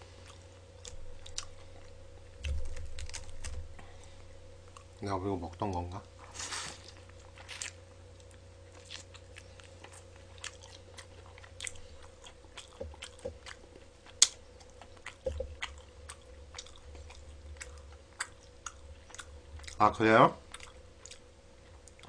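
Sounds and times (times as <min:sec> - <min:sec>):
man chewing crunchy food: 0:00.0 - 0:22.0.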